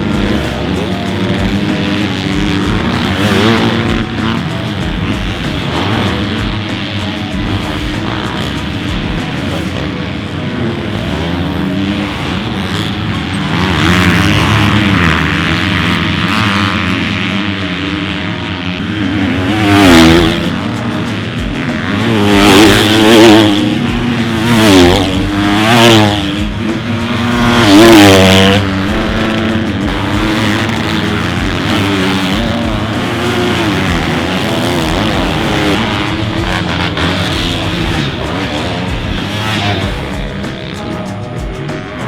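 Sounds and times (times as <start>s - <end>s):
distant engines droning: 0.0s - 42.0s
motocross bikes racing past: 0.0s - 42.0s.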